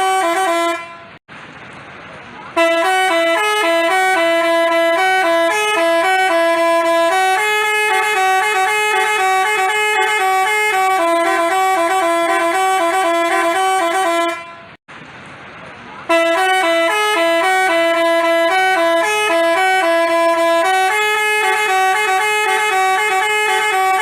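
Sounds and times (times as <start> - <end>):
bus horn playing a tune: 0.0 - 1.2, 2.5 - 14.8, 16.0 - 24.0.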